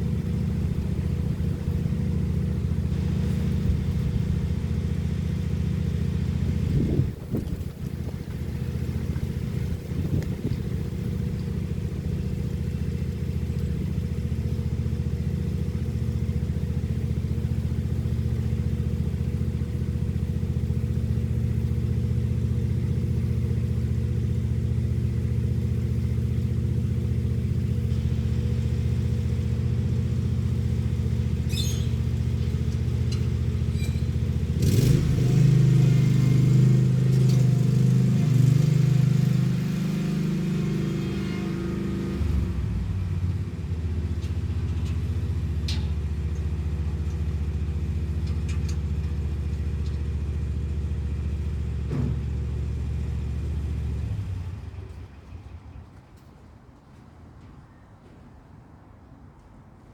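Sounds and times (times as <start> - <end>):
lawn mower engine running: 0.0 - 51.8.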